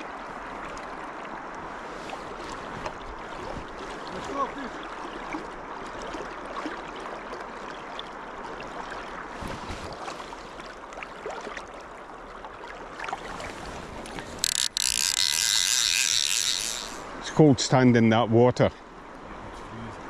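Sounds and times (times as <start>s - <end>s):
river water running: 0.0s - 20.0s.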